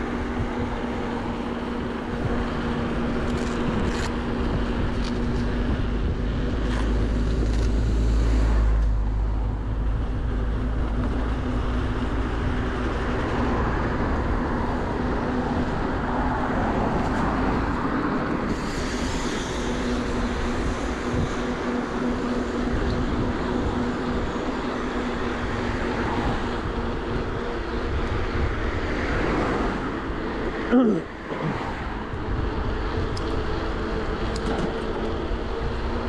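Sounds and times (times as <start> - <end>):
bike road noise: 0.0 - 36.0
traffic: 0.0 - 36.0
wind rushing over microphone: 0.0 - 36.0.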